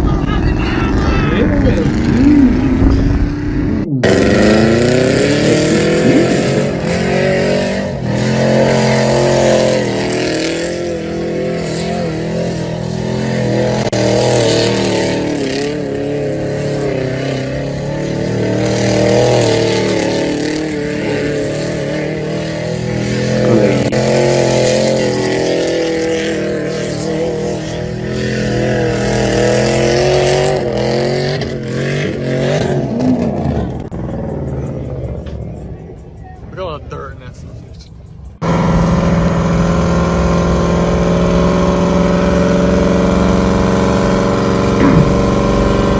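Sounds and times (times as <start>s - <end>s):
truck engines revving: 0.0s - 45.9s.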